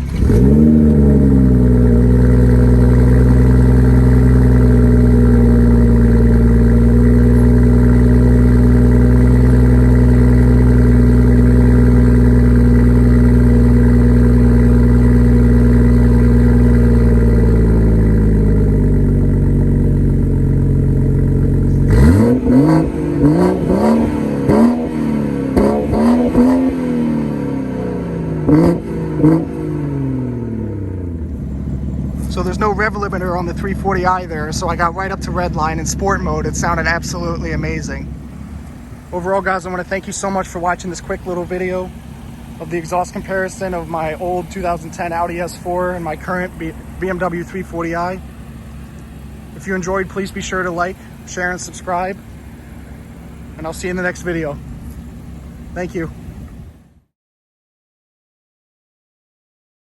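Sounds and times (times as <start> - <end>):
car engine revving sharply: 0.0 - 56.8
car engine starting and idling: 0.0 - 57.1.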